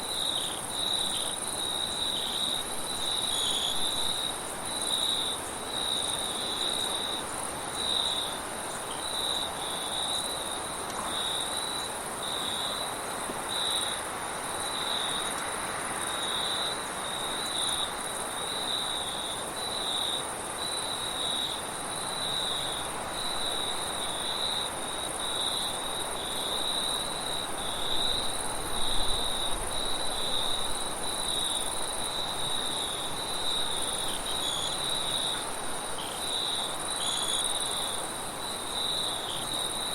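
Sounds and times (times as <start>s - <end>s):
high-pitched insect trill: 0.0s - 12.9s, 16.0s - 39.9s
crickets chirping: 0.0s - 39.9s.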